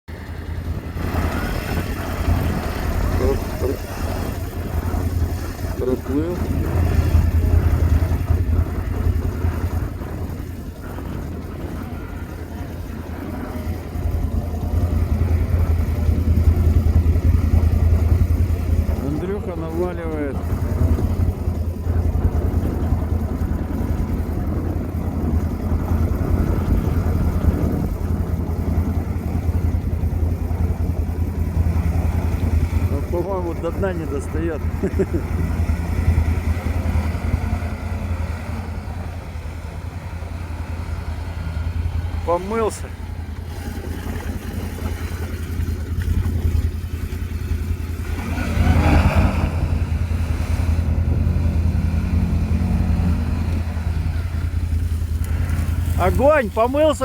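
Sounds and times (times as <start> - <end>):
atv engine running under load: 0.1 - 57.0.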